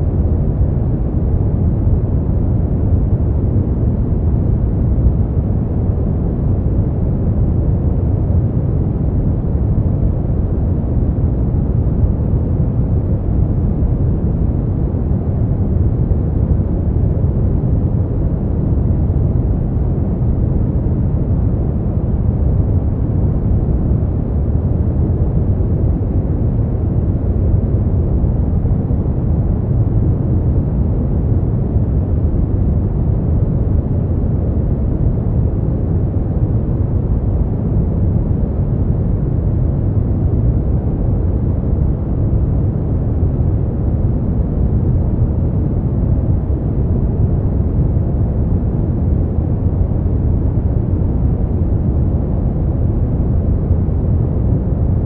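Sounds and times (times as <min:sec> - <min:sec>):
deep rumbling brown noise: 0:00.0 - 0:55.0.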